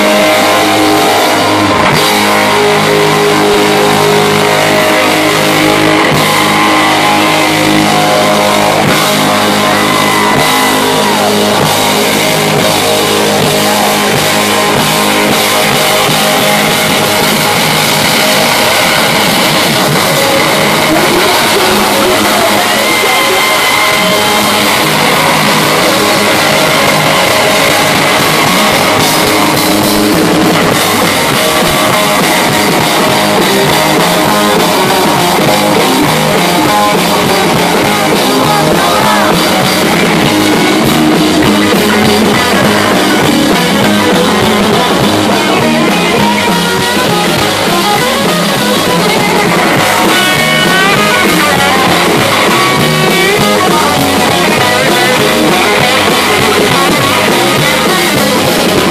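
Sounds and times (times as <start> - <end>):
drum kit: 0.0 - 58.9
electric guitars: 0.0 - 58.9
guitar bending notes: 0.0 - 58.9.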